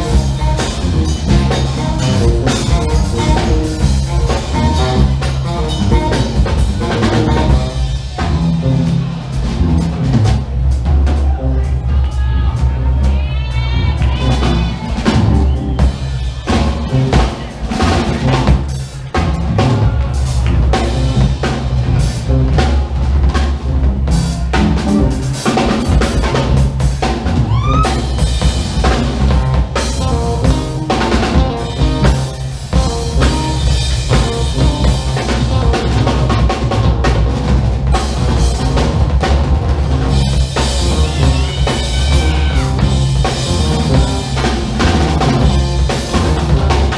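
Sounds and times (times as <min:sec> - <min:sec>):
funk band playing: 0:00.0 - 0:46.9.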